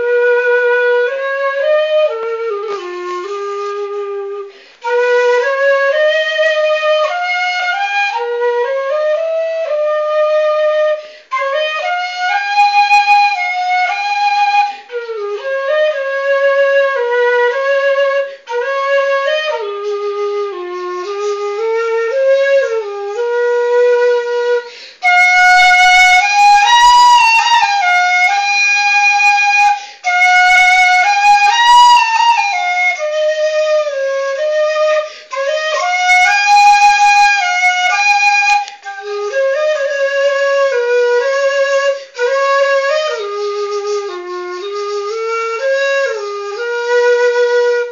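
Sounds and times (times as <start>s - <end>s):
bamboo flute melody: 0.0s - 47.9s.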